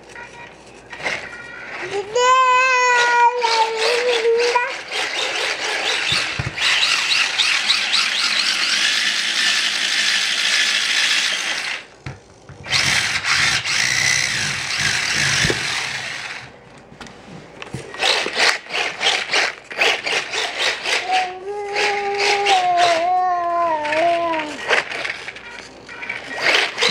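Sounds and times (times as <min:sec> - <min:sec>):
rc car motor whining: 0:01.0 - 0:11.9, 0:12.6 - 0:16.5, 0:18.0 - 0:26.9.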